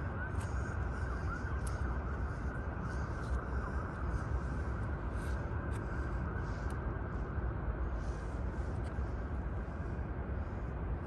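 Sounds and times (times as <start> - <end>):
general hiss of surroundings: 0.0 - 11.0
low city rumble: 0.0 - 11.0.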